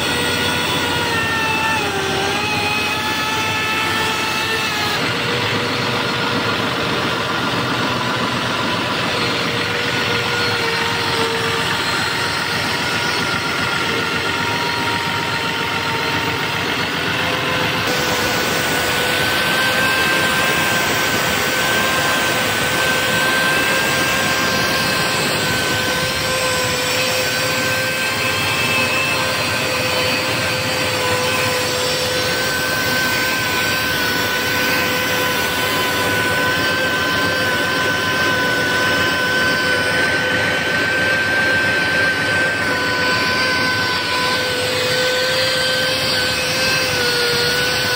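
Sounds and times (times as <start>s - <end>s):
grinding machine whining: 0.0s - 47.9s.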